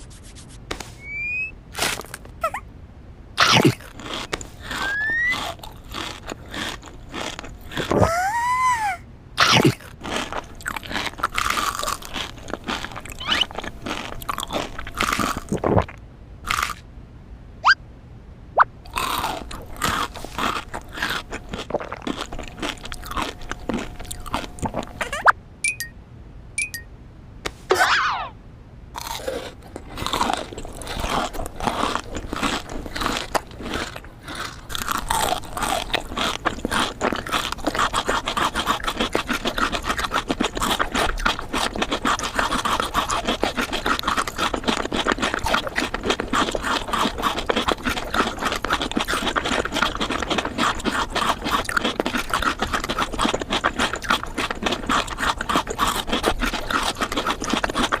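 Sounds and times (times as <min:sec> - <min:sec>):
chocolate crunching and chewing: 0:01.8 - 0:02.4, 0:03.4 - 0:08.4, 0:09.4 - 0:16.8, 0:18.9 - 0:25.2, 0:29.0 - 0:58.0.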